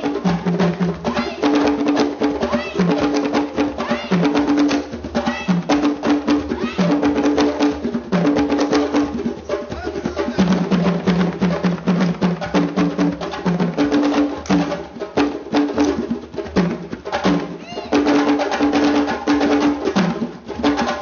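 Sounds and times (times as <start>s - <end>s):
fast percussion music: 0.0s - 21.0s.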